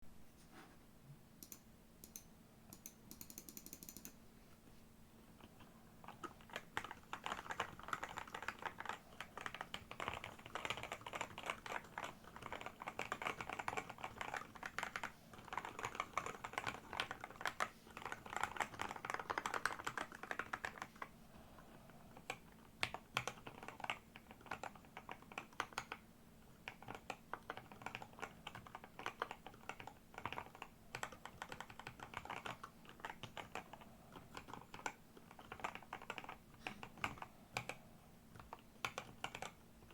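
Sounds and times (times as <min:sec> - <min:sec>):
fast typing on keyboard: 0:01.4 - 0:04.2, 0:05.5 - 0:21.1, 0:22.1 - 0:39.9.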